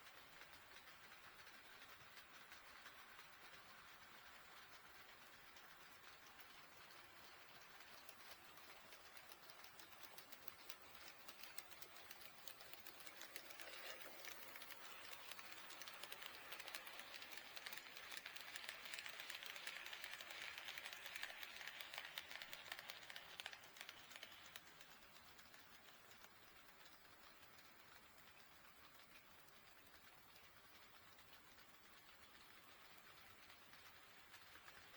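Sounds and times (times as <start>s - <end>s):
model train wheels clicking on rails: 0.0s - 34.9s
rolling hiss of model train: 0.0s - 34.9s.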